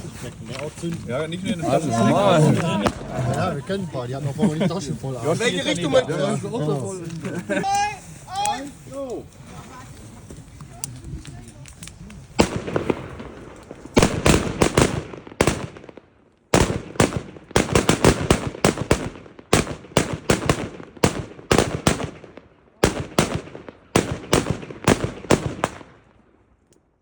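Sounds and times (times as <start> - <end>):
fireworks banging and crackling: 0.0 - 26.1.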